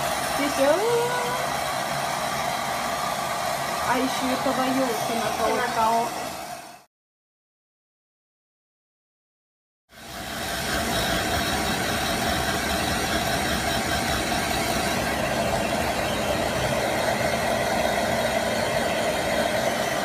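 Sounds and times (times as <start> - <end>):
hair dryer running: 0.0 - 6.9, 9.9 - 20.0.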